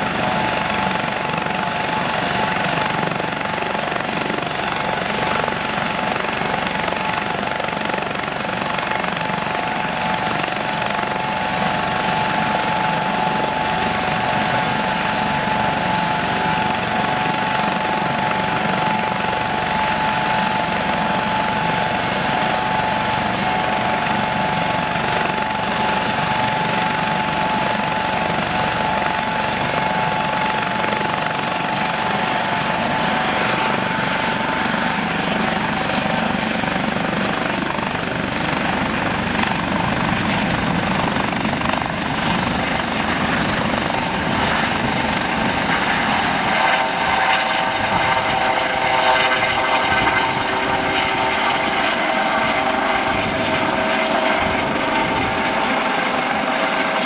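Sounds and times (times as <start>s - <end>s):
helicopter engines and rotors: 0.0s - 57.0s
high turbine whine: 8.7s - 57.0s.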